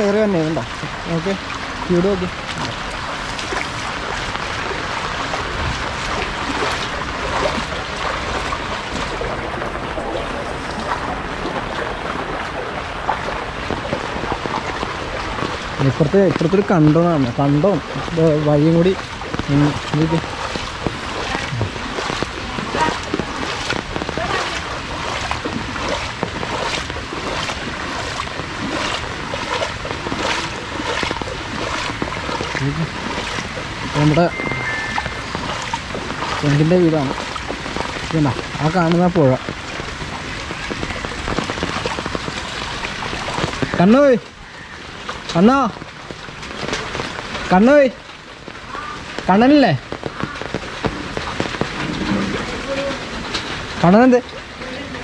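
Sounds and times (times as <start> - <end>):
rain falling on shallow water: 0.0 - 55.0
water splashing from wading: 0.0 - 55.0.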